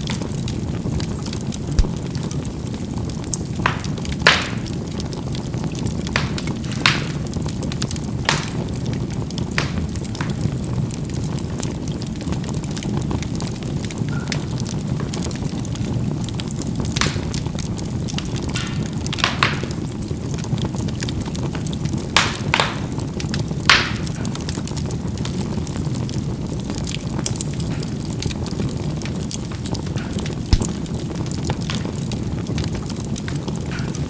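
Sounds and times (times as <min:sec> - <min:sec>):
charcoal popping and crackling: 0:00.0 - 0:34.0
low rumble of fire: 0:00.0 - 0:34.0.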